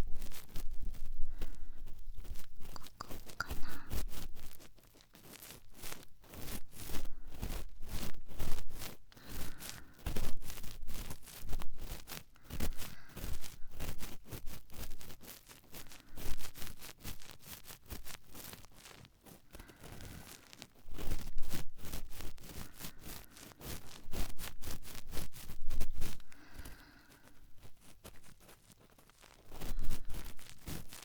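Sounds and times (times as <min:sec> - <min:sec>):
cotton swab scratching in ear: 0:00.0 - 0:31.0.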